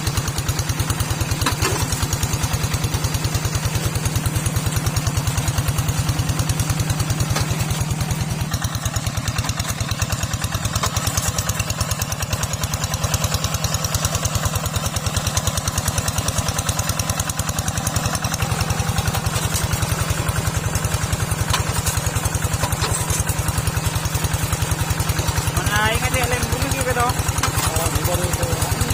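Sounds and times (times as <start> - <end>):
small tractor engine running: 0.0 - 28.9.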